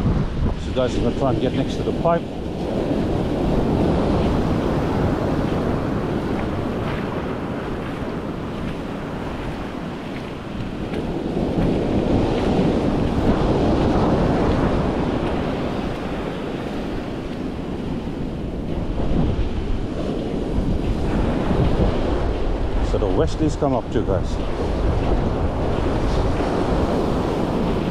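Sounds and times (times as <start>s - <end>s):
surf breaking on sand: 0.0s - 27.9s
wind buffeting microphone: 0.0s - 27.9s.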